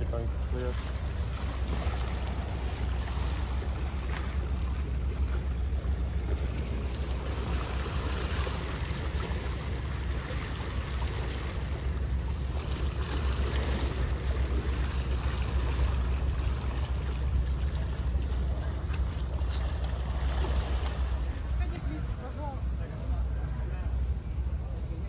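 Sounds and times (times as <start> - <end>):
sea water lapping against rocks: 0.0 - 22.3.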